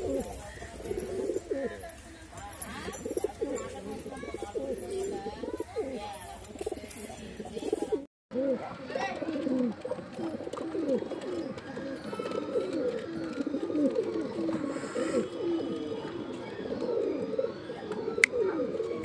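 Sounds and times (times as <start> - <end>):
pigeons cooing: 0.0 - 1.9, 2.6 - 19.0.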